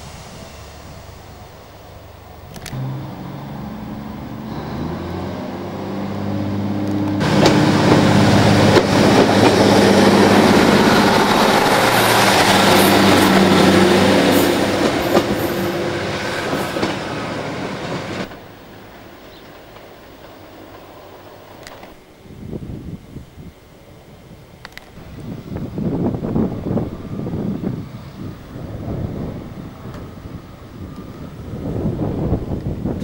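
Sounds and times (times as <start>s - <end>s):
train wheels on rails: 0.0s - 22.0s, 24.6s - 33.0s
diesel train engine: 0.0s - 33.0s.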